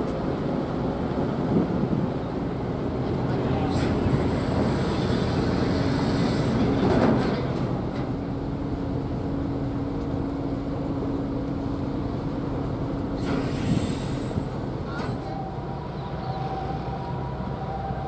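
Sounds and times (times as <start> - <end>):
low mechanical hum and drone: 0.0 - 18.0.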